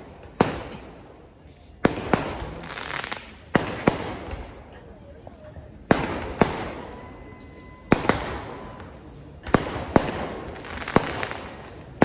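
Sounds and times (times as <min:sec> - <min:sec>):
fireworks bangs echoing: 0:00.0 - 0:05.0, 0:05.6 - 0:12.0.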